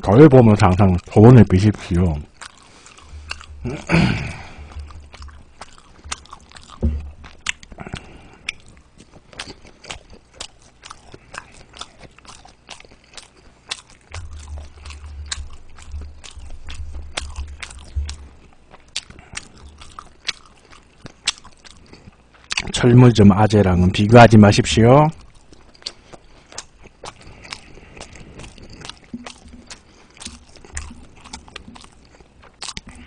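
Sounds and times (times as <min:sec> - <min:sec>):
mouth chewing wet smacks: 0:00.0 - 0:22.9, 0:25.1 - 0:33.0.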